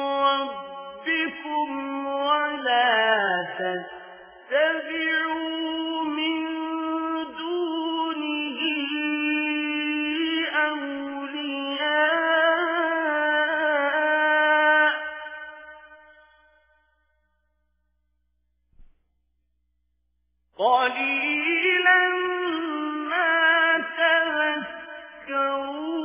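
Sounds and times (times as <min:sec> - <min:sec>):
person chanting melodic recitation: 0:00.0 - 0:15.7, 0:20.6 - 0:26.0.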